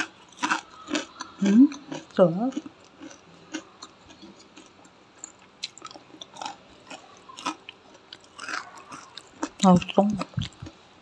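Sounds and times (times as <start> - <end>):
person chewing crispy food: 0.0 - 10.9.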